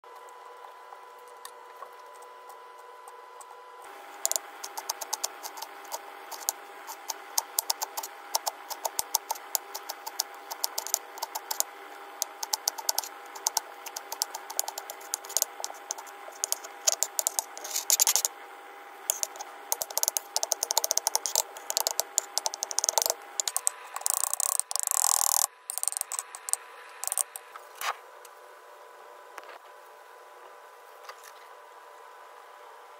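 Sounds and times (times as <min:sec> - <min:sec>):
steady hum: 0:01.1 - 0:29.6.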